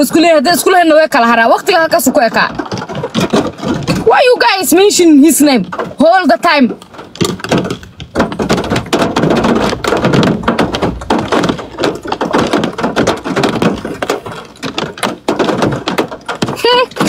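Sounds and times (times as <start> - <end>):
rapid knocks: 0.0 - 17.0
rustling: 0.0 - 17.0.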